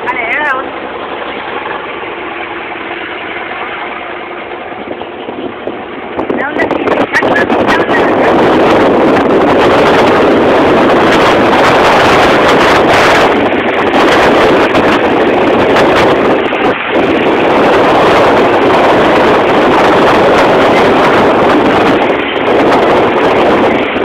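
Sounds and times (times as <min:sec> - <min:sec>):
boat engine: 0:00.0 - 0:24.0
water noise: 0:00.0 - 0:24.0
wind on microphone: 0:00.0 - 0:24.0.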